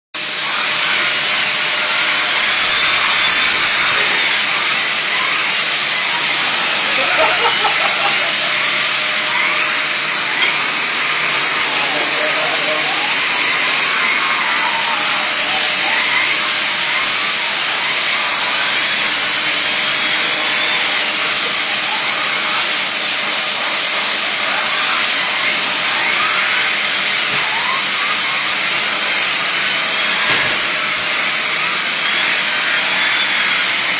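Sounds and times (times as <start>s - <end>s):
vacuum cleaner running: 0.2s - 33.9s.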